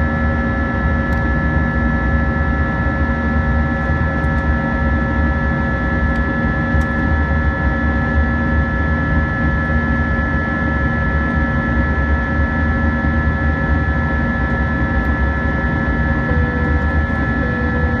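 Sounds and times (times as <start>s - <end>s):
jet engines droning in cabin: 0.0s - 18.0s.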